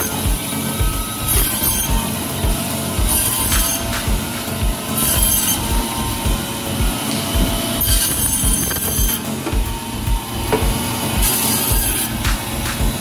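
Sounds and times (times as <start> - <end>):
high-pitched saw blade screech: 0.0 - 10.4, 11.0 - 12.3
electric bone saw cutting fish: 0.0 - 13.0.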